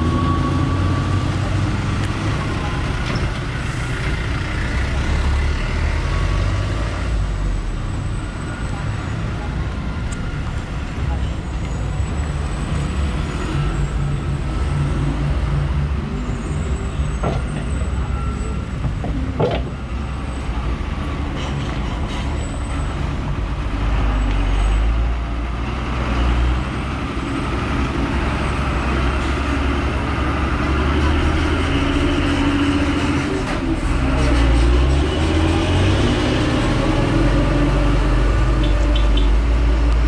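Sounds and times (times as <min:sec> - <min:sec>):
vehicle engines passing: 0:00.0 - 0:40.0.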